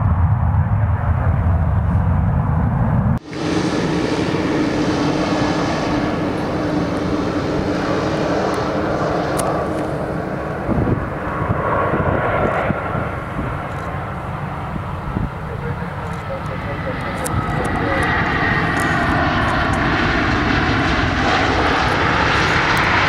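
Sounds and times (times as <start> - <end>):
jet airliner engines whining: 0.0 - 23.0
turboprop engines taxiing: 0.2 - 23.0.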